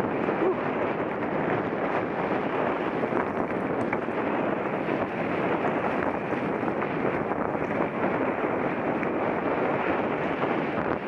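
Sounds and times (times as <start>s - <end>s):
bike tyre noise: 0.0s - 11.0s
wind on microphone: 0.0s - 11.0s.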